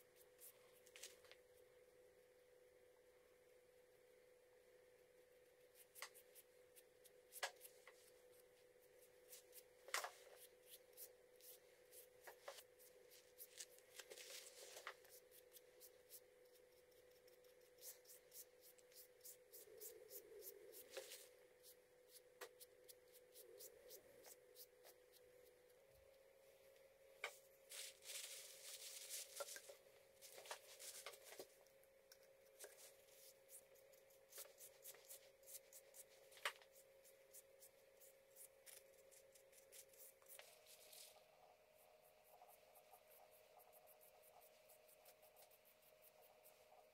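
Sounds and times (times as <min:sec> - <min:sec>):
paintbrush brushing scratches: 0:05.7 - 0:26.1, 0:27.7 - 0:31.6, 0:32.5 - 0:46.9.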